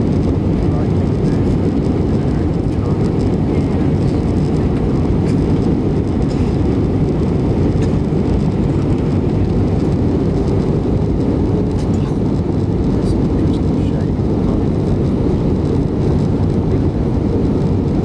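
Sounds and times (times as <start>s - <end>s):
airliner engines roaring in cabin: 0.0s - 18.0s.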